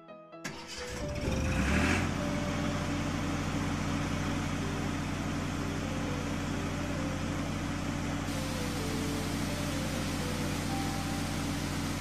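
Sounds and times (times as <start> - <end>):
cartoon farm vehicle engine humming: 0.5 - 12.0.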